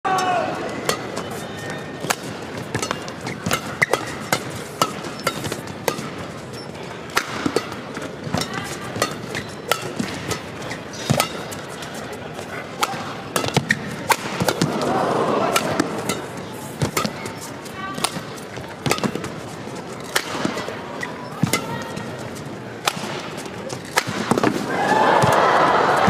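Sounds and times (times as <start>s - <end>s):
crowd noise: 0.0s - 26.0s
rackets striking shuttlecock: 0.1s - 14.9s, 15.5s - 25.4s.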